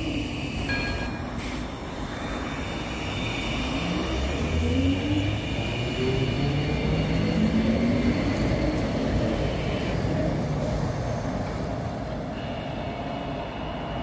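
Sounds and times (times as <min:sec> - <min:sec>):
electric tram motors whining: 0:00.0 - 0:14.0
tram running noise: 0:00.0 - 0:14.0.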